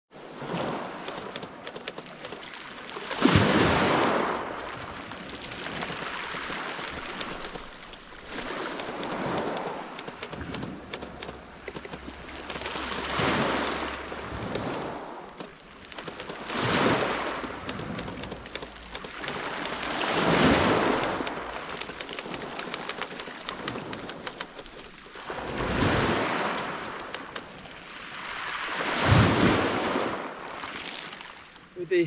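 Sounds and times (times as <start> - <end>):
sea waves washing on shore: 0.2 - 32.0.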